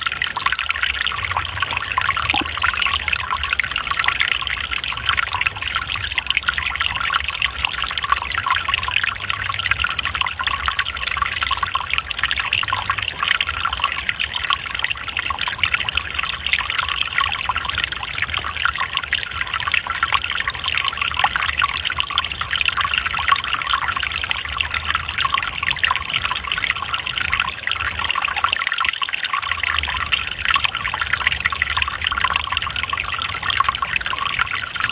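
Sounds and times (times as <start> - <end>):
water trickling and flowing: 0.0 - 34.9.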